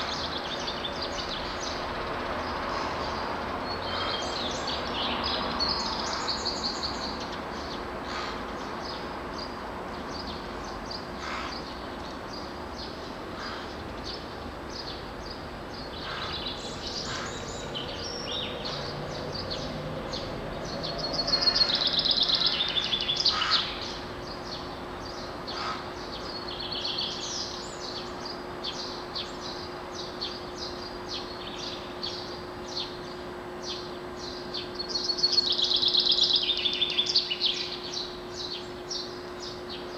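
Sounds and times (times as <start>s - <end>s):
faint steady hum: 0.0s - 39.9s
songbirds chirping and singing: 0.0s - 39.9s.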